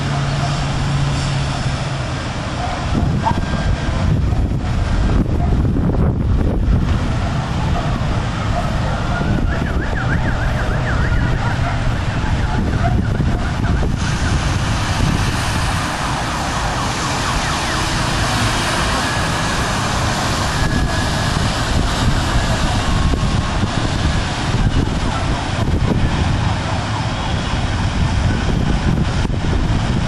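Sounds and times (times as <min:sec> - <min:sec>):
emergency siren wailing: 0:00.0 - 0:30.0
wind rumble on microphone: 0:00.0 - 0:30.0.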